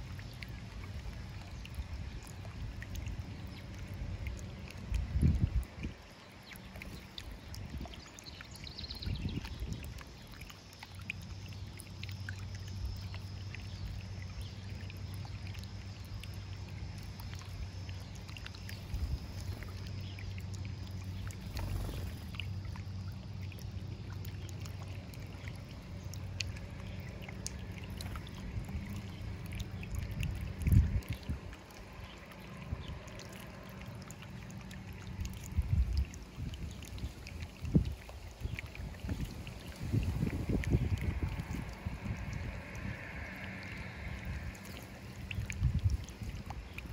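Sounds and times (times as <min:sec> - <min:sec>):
fountain bubbling and trickling: 0:00.0 - 0:46.9
low steady hum: 0:00.0 - 0:46.9.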